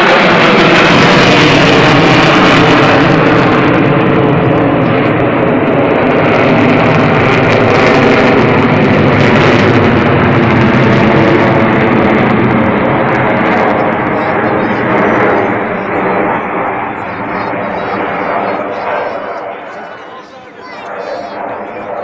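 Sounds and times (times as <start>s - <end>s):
fighter jets flying overhead: 0.0s - 22.0s.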